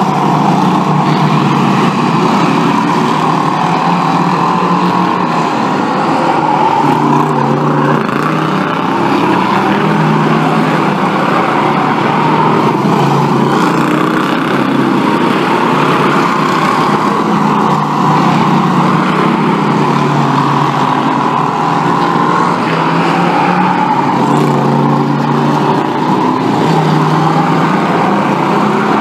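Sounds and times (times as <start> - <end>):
racing car engines: 0.0 - 29.0.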